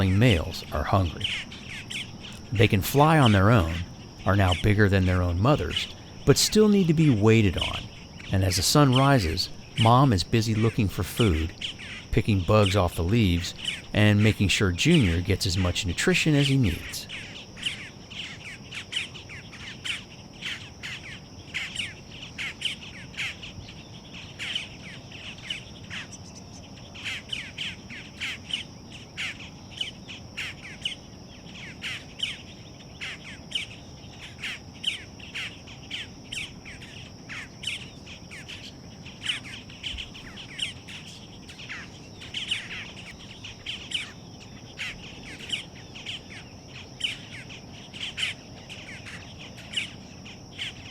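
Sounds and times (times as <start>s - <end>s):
grackles calling: 0.0s - 50.9s
high insect buzz: 0.0s - 50.9s.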